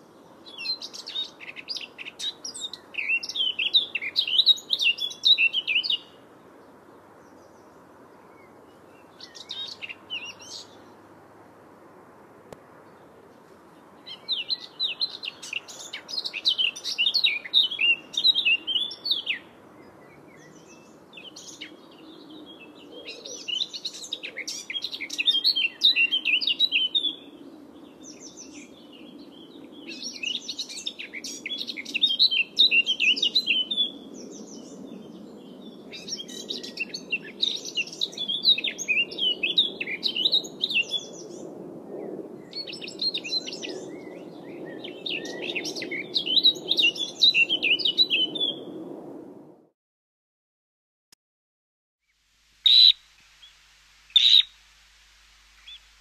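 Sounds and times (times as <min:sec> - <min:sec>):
songbird chirping: 0:00.0 - 0:11.1, 0:12.5 - 0:41.3, 0:42.0 - 0:48.7, 0:52.0 - 0:56.0.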